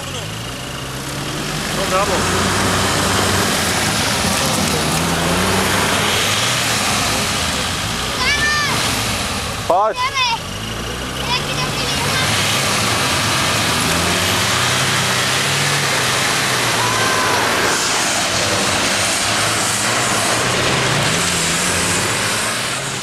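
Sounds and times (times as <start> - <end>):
engine working hard under load: 0.0 - 23.0.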